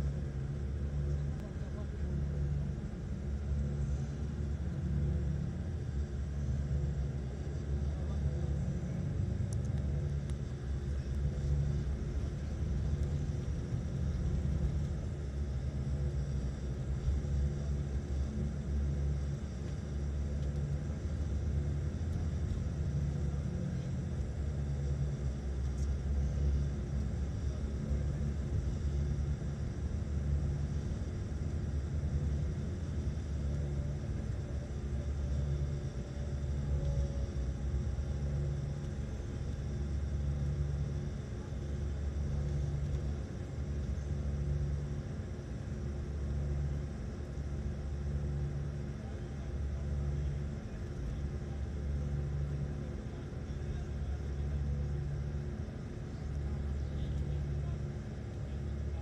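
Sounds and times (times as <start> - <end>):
engine and road noise rumble: 0.0 - 59.0.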